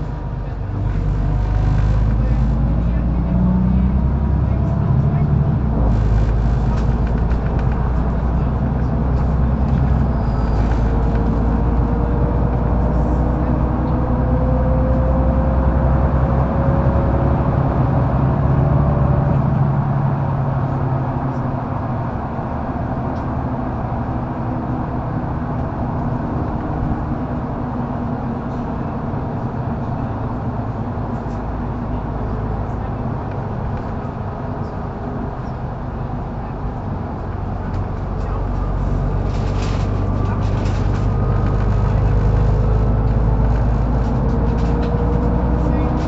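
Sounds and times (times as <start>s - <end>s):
bus engine rumbling: 0.0s - 46.0s
faint drivetrain whine: 0.0s - 46.0s.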